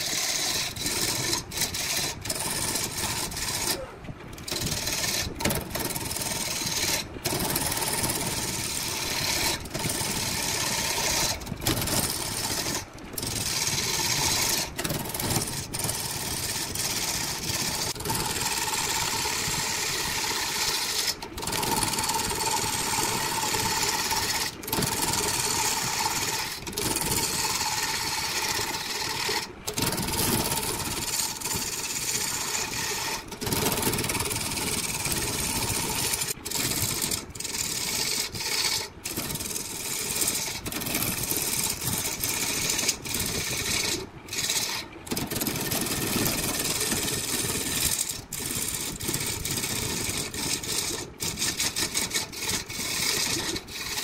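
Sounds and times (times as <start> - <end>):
woodworking power tools running: 0.0 - 16.2, 17.8 - 40.6, 42.1 - 48.8.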